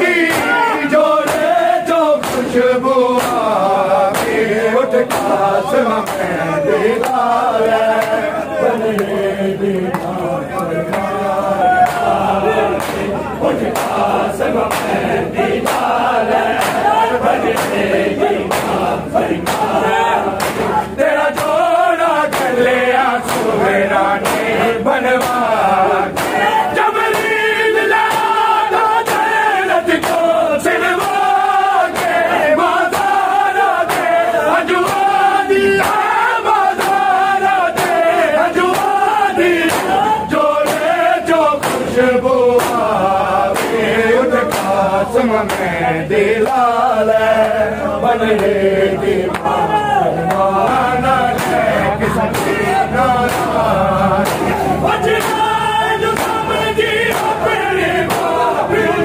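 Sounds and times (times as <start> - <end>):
men chanting in unison: 0.0 - 59.0
chest slapping beat: 1.2 - 41.0, 41.6 - 46.7, 48.3 - 59.0.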